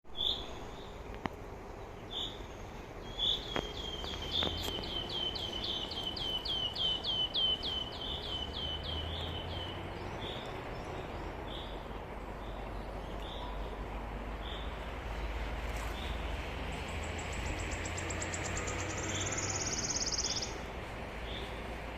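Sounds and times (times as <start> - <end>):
songbird singing: 0.1 - 21.9.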